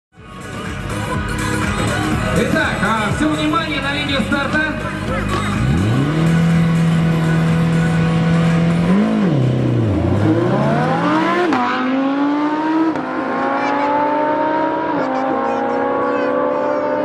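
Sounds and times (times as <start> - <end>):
engine revving and accelerating: 1.7 - 17.0.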